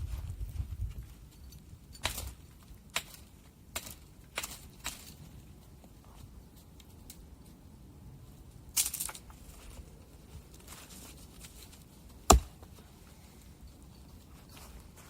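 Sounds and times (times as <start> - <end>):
crackling rustle: 0.0 - 15.0.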